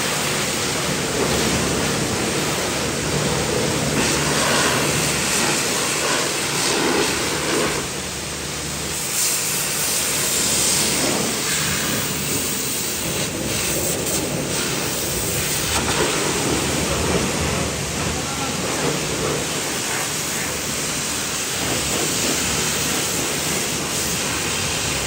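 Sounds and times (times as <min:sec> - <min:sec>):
pressure washer spraying water: 0:00.0 - 0:25.0.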